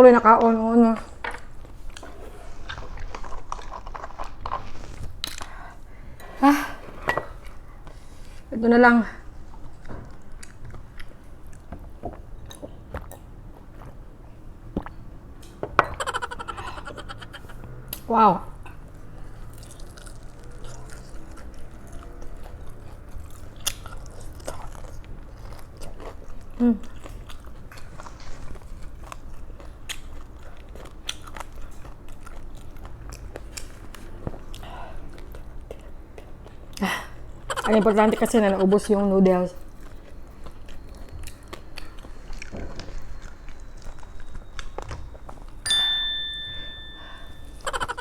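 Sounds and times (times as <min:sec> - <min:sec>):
person chewing food: 0:01.0 - 0:08.5, 0:09.2 - 0:45.7, 0:46.5 - 0:48.0.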